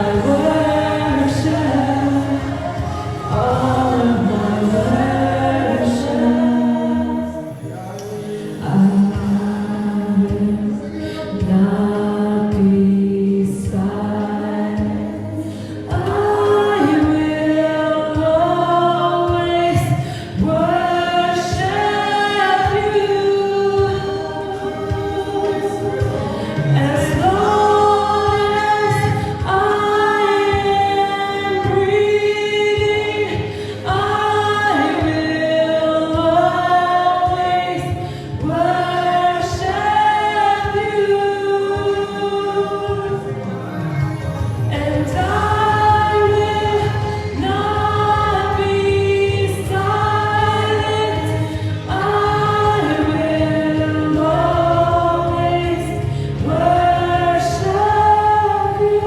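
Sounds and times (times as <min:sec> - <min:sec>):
group singing gospel song: 0:00.0 - 0:59.0.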